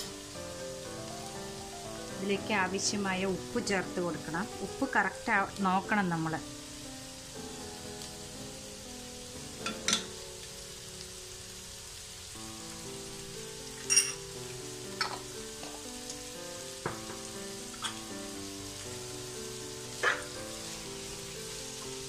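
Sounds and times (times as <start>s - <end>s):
soft background melody: 0.0s - 22.0s
vegetables sizzling in oil: 0.0s - 22.0s.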